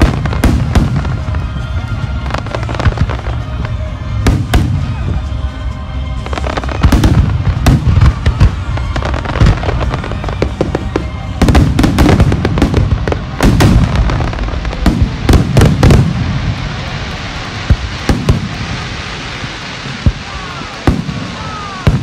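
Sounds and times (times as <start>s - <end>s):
fireworks bursting: 0.0s - 22.0s
music playing: 0.0s - 22.0s.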